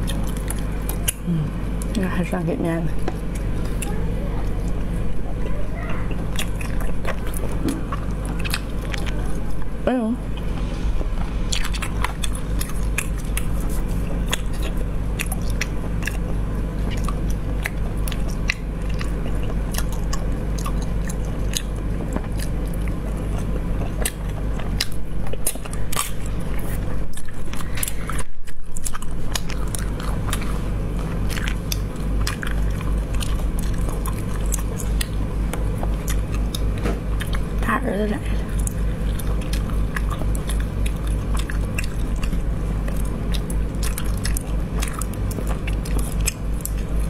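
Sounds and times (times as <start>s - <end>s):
chewing and biting: 0.0s - 2.0s, 2.9s - 9.8s, 10.4s - 37.7s, 38.3s - 47.0s
low hum: 0.0s - 47.0s.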